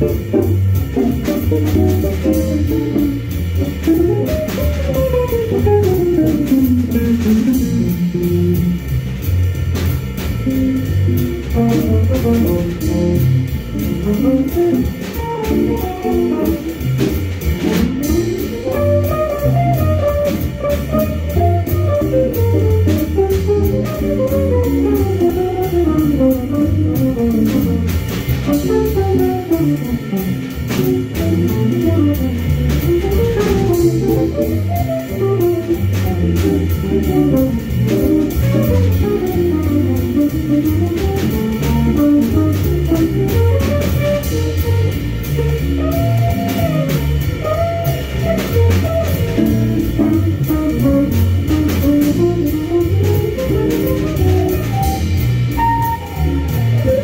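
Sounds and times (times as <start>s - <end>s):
electric guitars jamming jazz: 0.0s - 57.0s.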